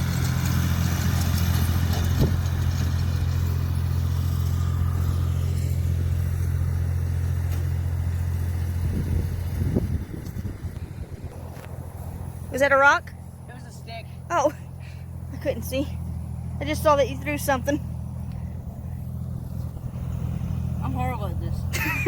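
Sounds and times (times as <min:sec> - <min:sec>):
lawn tractor engine mowing: 0:00.0 - 0:22.0.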